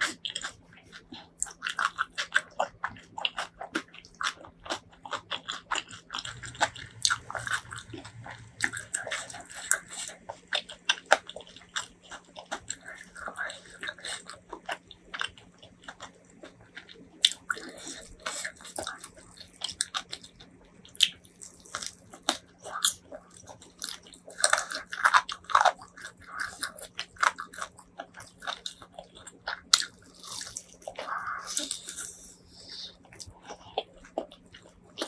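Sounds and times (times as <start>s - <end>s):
crunchy chewing: 0.0s - 35.0s.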